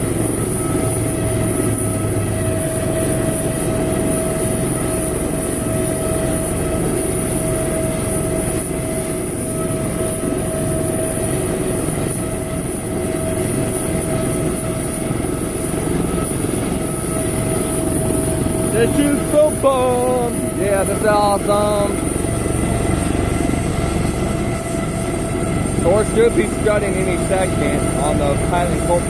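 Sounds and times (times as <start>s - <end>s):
helicopter rotor and engine noise: 0.0s - 29.0s
high turbine whine: 0.0s - 29.0s.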